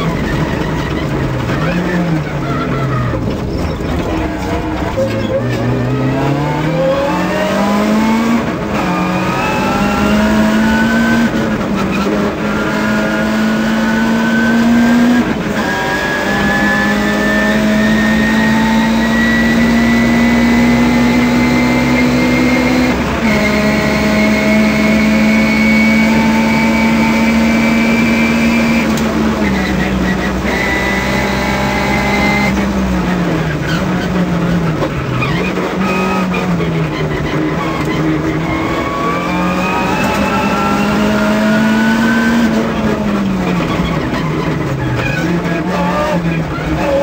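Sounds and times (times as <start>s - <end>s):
rally car engine revving: 0.0s - 47.0s
road noise: 0.0s - 47.0s.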